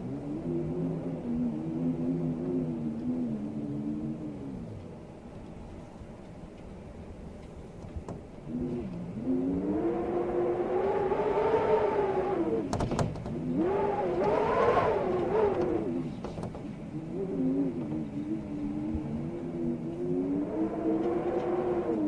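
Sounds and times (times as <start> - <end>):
storm wind howling in gusts: 0.0 - 22.0.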